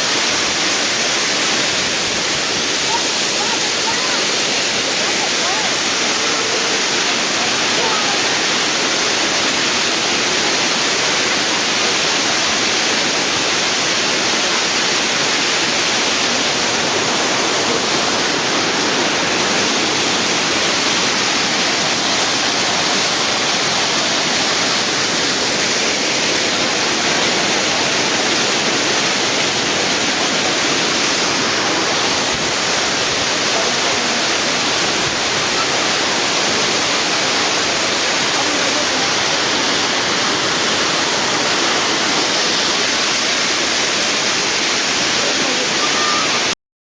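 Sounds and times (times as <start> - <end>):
waterfall crashing into pool: 0.0 - 46.6.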